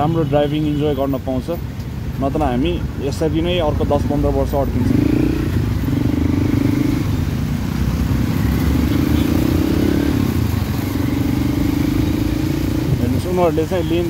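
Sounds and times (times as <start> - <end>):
road traffic rumble: 0.0 - 14.0
vehicle engine humming: 1.5 - 14.0.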